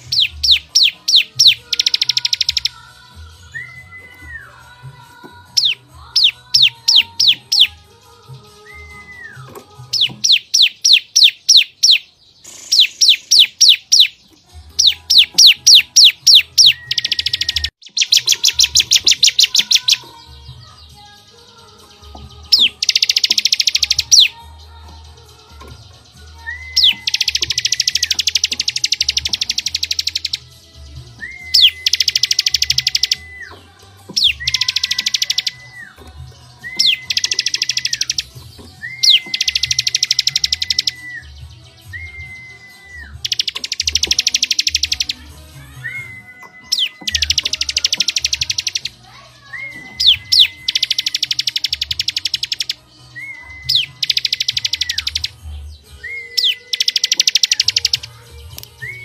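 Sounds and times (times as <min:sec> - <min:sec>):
songbird trilling and whistling: 0:00.0 - 0:59.0.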